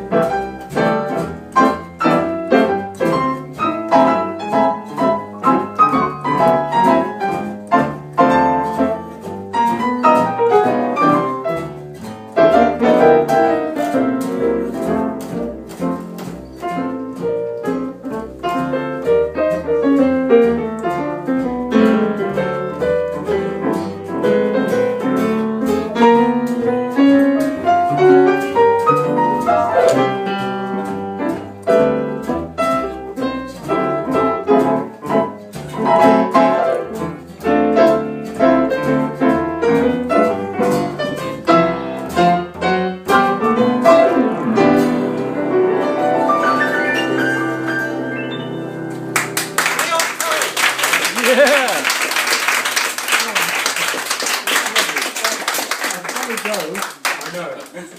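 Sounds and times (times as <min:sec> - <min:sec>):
piano playing quick runs: 0:00.0 - 0:55.9.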